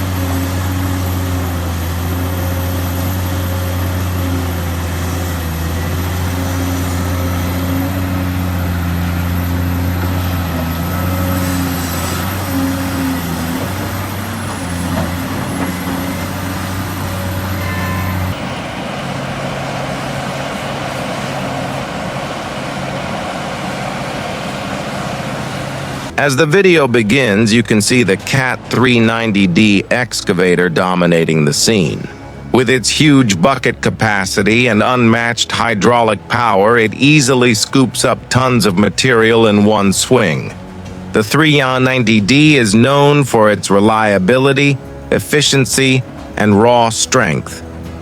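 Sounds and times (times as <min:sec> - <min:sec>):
large diesel engines working: 0:00.0 - 0:48.0
lower-pitched engine note: 0:00.0 - 0:48.0.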